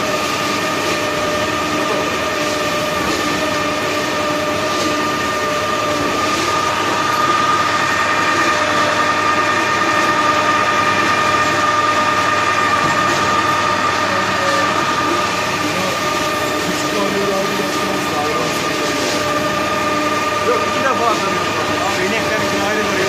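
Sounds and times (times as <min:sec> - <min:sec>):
feed mixer whining: 0:00.0 - 0:23.0.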